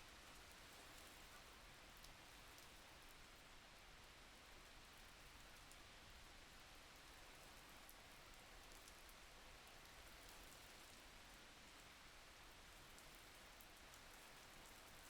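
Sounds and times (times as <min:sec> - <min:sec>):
faint steady rain: 0:00.0 - 0:15.0.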